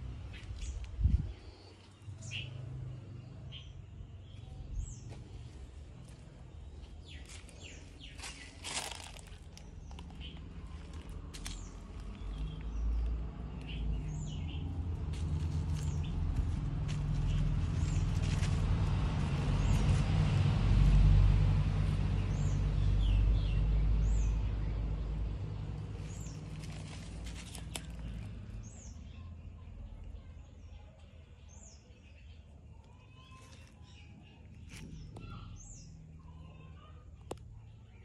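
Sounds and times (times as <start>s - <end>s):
passing vehicle rumble: 0.0s - 30.5s
small birds chirping: 0.1s - 18.6s, 22.1s - 38.0s.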